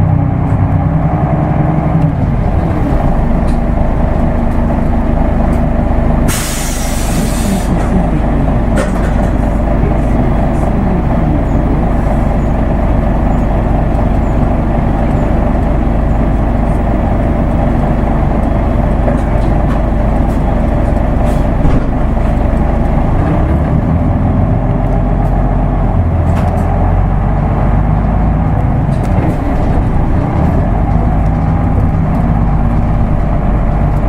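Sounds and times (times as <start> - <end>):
bus diesel engine drone: 0.0 - 34.0
road noise: 0.0 - 34.0.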